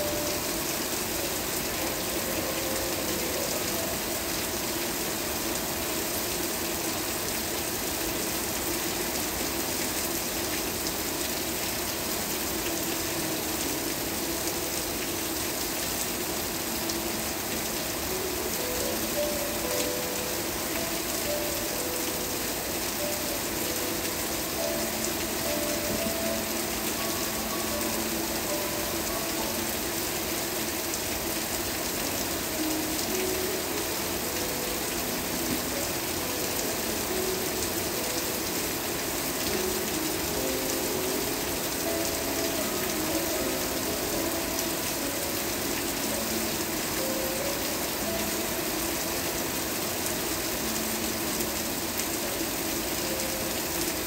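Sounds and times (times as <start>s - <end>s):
soft slow melody: 0.0s - 54.0s
steady rain: 0.0s - 54.0s.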